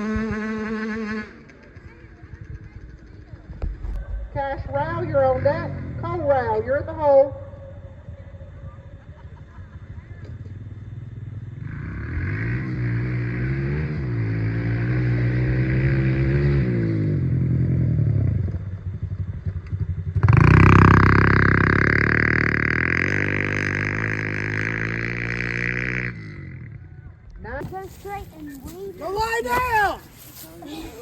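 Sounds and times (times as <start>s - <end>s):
dirt bike engine revving: 0.0s - 3.6s, 4.3s - 26.9s.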